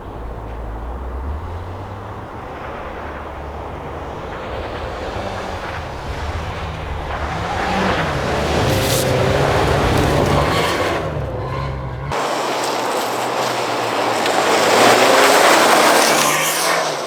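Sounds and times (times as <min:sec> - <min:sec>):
rally car engine running hard: 0:00.0 - 0:17.0.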